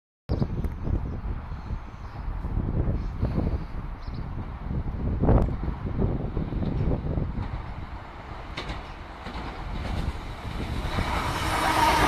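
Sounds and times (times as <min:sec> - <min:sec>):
wind buffeting microphone: 0:00.3 - 0:12.0.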